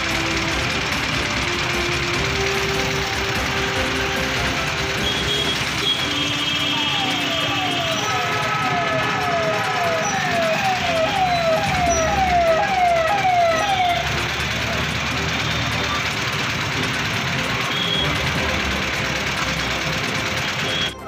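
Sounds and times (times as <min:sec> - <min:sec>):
police siren wailing: 0:00.0 - 0:17.0
vehicle engine noise: 0:00.0 - 0:21.0.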